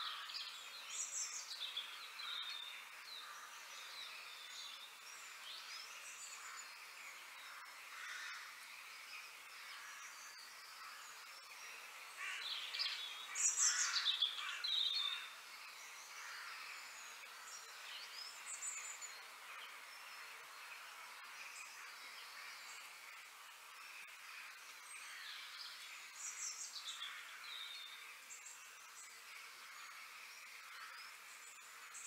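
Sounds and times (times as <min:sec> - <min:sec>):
birds chirping: 0:00.0 - 0:32.0
outdoor background hiss: 0:00.0 - 0:32.0.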